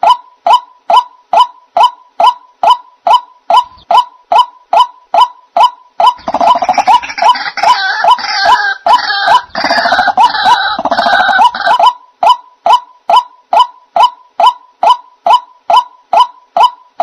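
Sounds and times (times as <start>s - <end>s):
waterhen calling in sharp notes: 0.0s - 17.0s.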